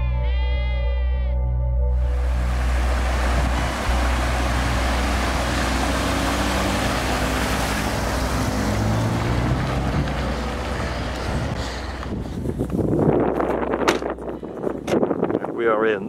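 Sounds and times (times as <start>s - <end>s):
low engine rumble: 1.9s - 15.6s
road and wind noise: 2.0s - 16.0s.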